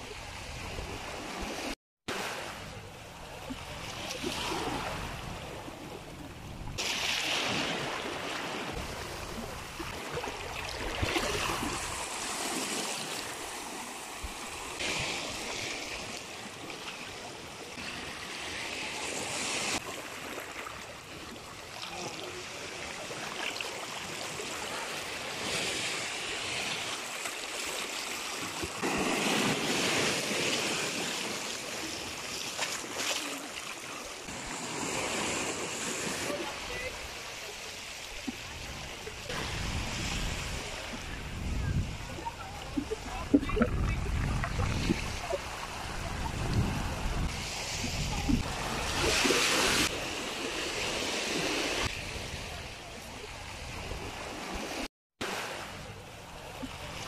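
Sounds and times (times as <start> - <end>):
waves washing over rocks: 1.0 - 57.0.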